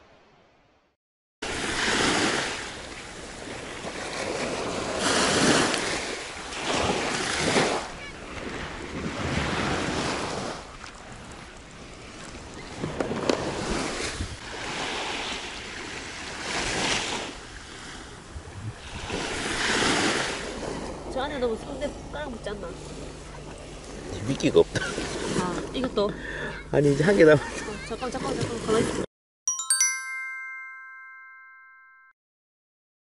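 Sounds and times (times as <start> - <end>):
wind: 0.0 - 31.8
small waves breaking on sand: 1.4 - 29.0.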